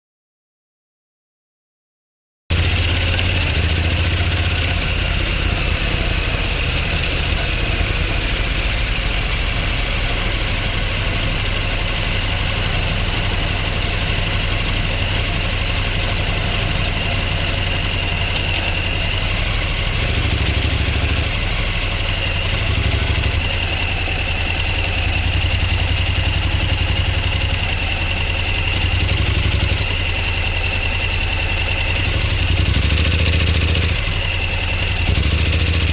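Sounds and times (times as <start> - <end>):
motorcycle engine running: 2.5 - 35.9.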